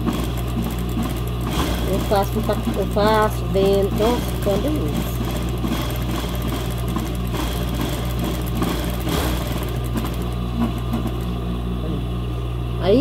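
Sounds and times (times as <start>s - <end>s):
sewing machine running: 0.0s - 11.5s.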